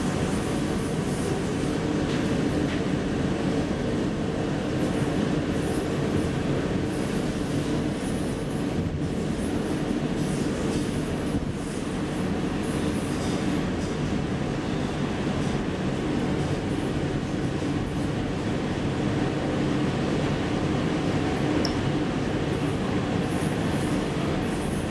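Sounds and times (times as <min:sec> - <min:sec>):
elevator car running rumble: 0:00.0 - 0:24.9.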